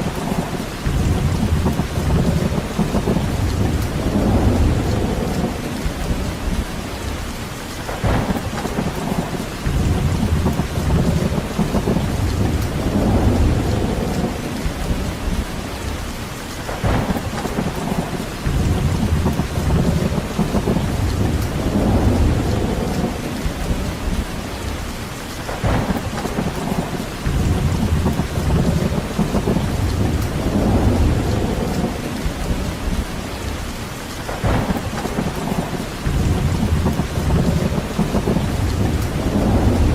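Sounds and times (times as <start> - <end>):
low rumbling: 0.0 - 7.4, 8.0 - 16.2, 16.8 - 24.9, 25.6 - 33.7, 34.3 - 39.9
heavy rain: 0.0 - 39.9.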